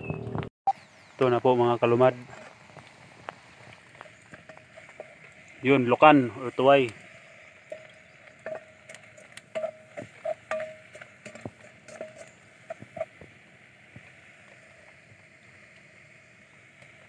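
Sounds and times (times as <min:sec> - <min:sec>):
pot bubbling hiss: 0:00.7 - 0:17.0
fire crackles and clicks: 0:01.9 - 0:17.0.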